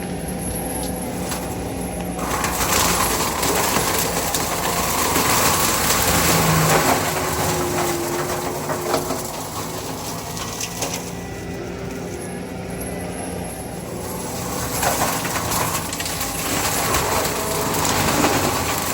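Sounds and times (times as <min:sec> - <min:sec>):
diesel engine running: 0:00.0 - 0:18.9
mulcher grinding wood: 0:00.0 - 0:18.9
wood cracking: 0:00.8 - 0:12.0, 0:13.9 - 0:18.9.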